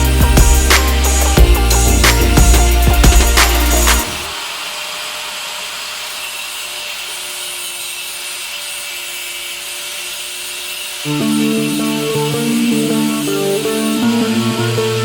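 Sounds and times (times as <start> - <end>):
drill bit grinding on abrasive: 0.0 - 15.0.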